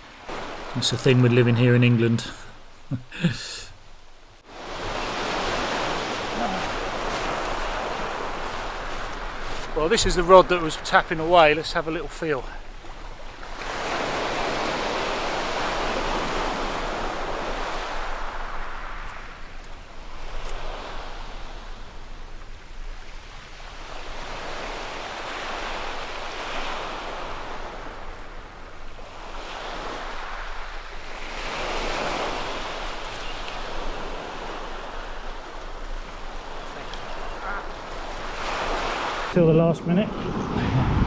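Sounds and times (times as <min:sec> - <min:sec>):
waves washing up shingle beach: 0:00.0 - 0:03.4, 0:04.4 - 0:41.0.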